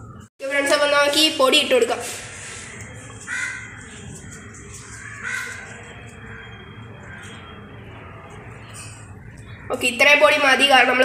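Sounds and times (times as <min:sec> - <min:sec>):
harsh bird calls: 0:02.0 - 0:11.0.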